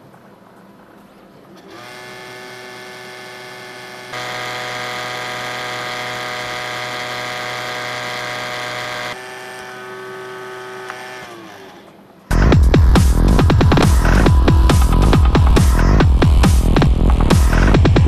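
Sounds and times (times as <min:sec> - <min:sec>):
laptop fan buzzing rattle: 0:01.6 - 0:18.0.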